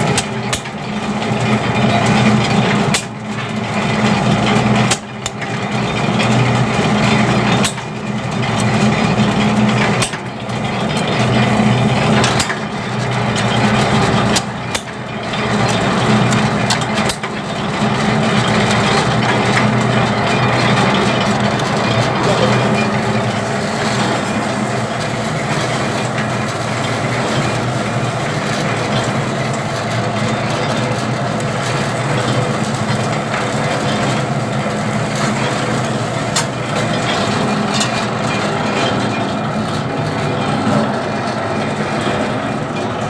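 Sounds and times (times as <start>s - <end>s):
low machine hum: 0.0s - 43.0s
sheet rolling machine running: 0.0s - 43.0s.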